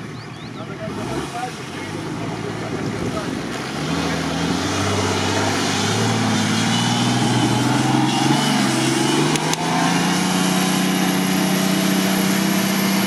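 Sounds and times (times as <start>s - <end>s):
engine working hard under load: 0.0s - 13.0s.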